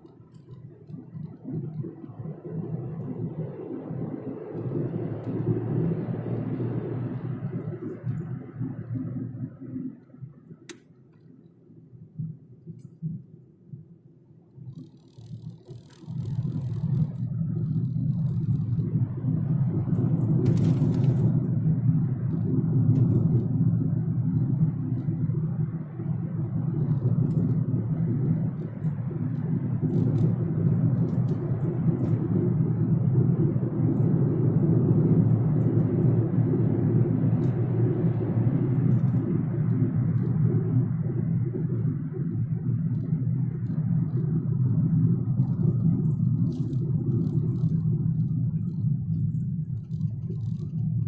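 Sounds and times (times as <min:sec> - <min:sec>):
car engine and tyres rumbling: 0:00.0 - 0:51.0.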